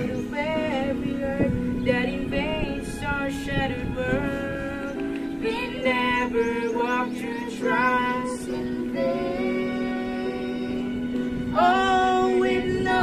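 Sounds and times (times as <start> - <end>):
held music accompaniment: 0.0 - 13.0
woman singing: 0.0 - 13.0.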